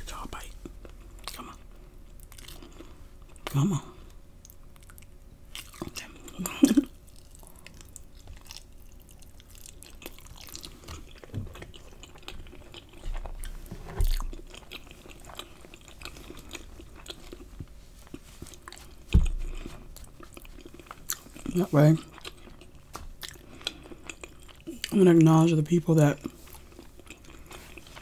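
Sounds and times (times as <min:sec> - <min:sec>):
person chewing food: 0:00.1 - 0:25.3, 0:26.2 - 0:28.0.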